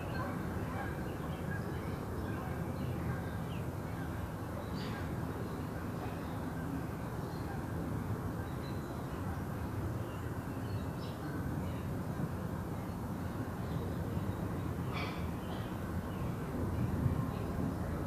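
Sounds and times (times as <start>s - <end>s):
low storm noise: 0.0s - 18.0s.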